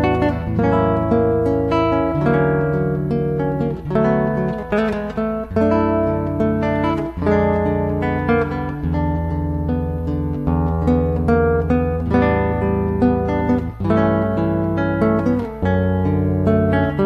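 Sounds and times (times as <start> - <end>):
acoustic guitars playing: 0.0 - 17.0.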